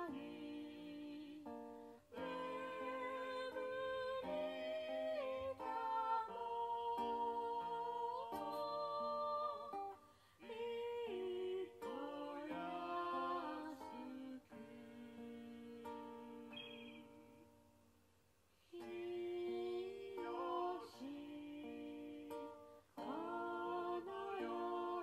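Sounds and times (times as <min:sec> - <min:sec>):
person singing: 0:00.0 - 0:17.5, 0:18.7 - 0:25.0
acoustic guitar: 0:00.0 - 0:25.0.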